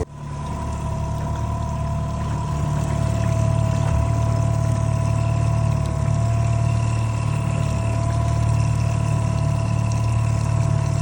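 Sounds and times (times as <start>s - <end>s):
motorboat engine humming: 0.0s - 11.0s.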